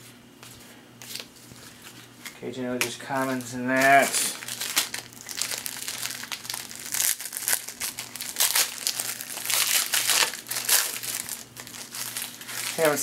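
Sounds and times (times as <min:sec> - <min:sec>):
plastic wrapper crinkling: 0:01.1 - 0:13.0.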